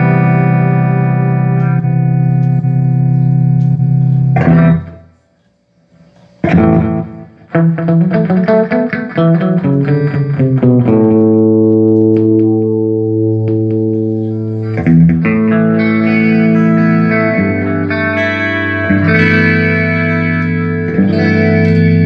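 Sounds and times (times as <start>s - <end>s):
electric guitar chords and notes: 0.0s - 5.2s, 6.1s - 22.0s.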